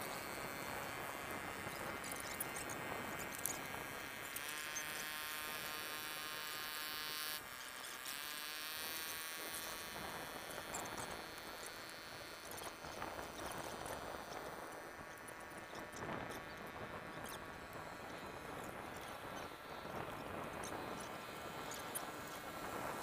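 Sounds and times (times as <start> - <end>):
small motor buzzing: 0.0 - 23.0.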